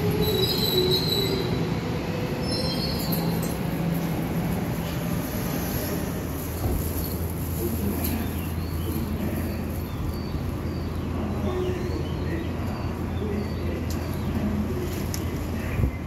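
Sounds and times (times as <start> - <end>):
train low hum: 0.0 - 16.0.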